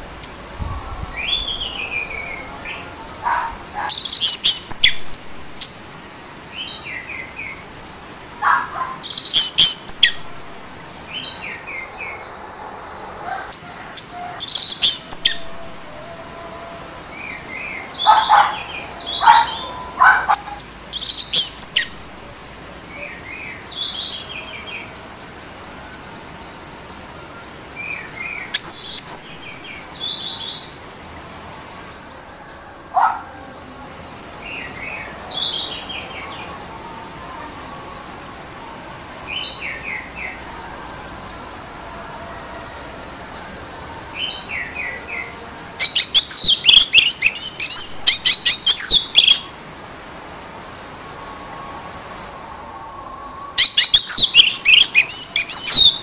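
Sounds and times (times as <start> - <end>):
thrush singing: 0.0 - 56.0.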